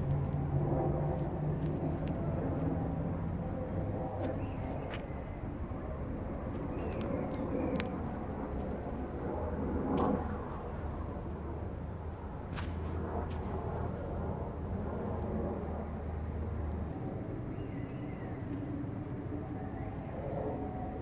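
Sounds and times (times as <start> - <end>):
low outdoor hum: 0.0 - 21.0.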